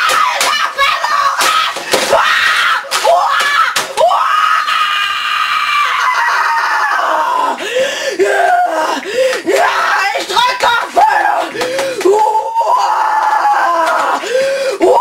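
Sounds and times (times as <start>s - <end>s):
boy screaming in rage: 0.0s - 7.6s, 8.2s - 14.2s.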